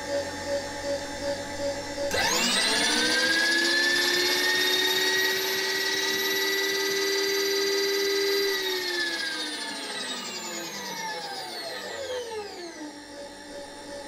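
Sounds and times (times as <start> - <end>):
milling machine feed motor whine: 0.0 - 14.0.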